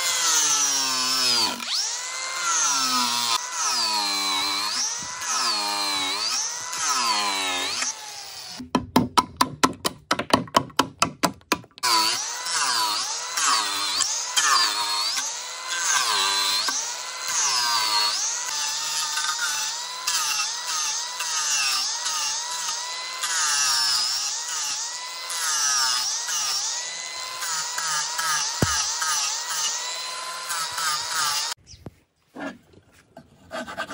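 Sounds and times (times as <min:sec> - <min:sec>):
angle grinder cutting wood: 0:00.0 - 0:08.6, 0:11.8 - 0:31.6.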